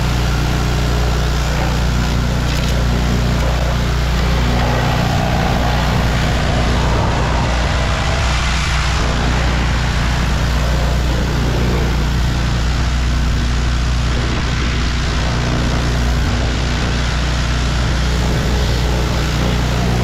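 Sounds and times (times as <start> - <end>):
pressure washer engine running: 0.0 - 20.0.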